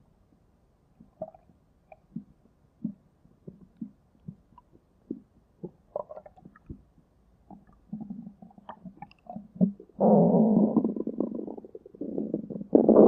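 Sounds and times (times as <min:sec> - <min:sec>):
stomach gurgling and rumbling: 0:01.0 - 0:13.0.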